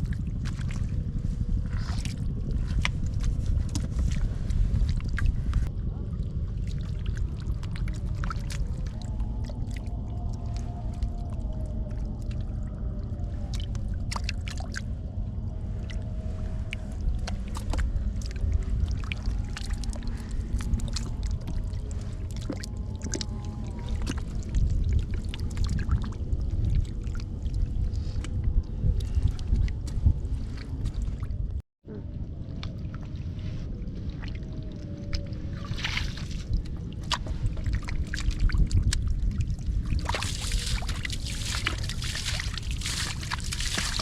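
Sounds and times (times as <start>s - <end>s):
steady low rumble: 0.0s - 44.0s
water splashing and sloshing: 0.0s - 44.0s.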